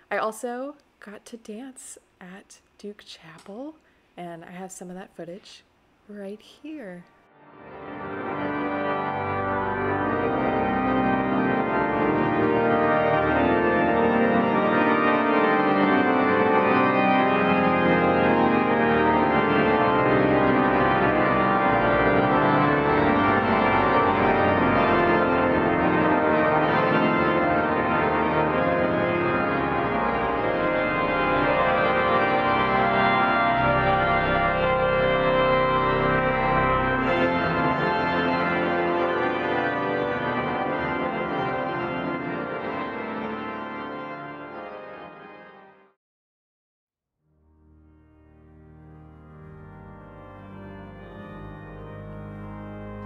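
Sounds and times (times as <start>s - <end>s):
organ playing sustained chords: 7.4s - 45.9s, 47.7s - 53.0s.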